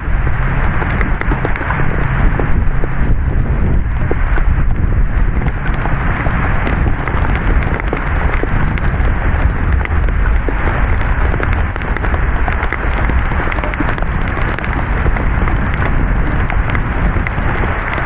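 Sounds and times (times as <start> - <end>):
gusty wind rumble: 0.0 - 18.0
heavy rain pouring: 0.0 - 18.0.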